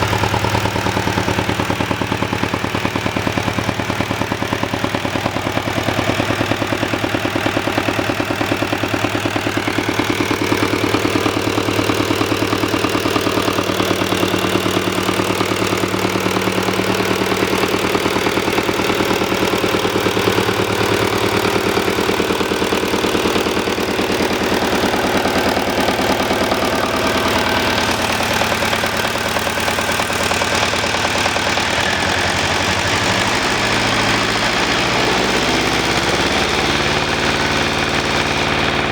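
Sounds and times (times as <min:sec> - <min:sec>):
diesel engine knocking: 0:00.0 - 0:38.9.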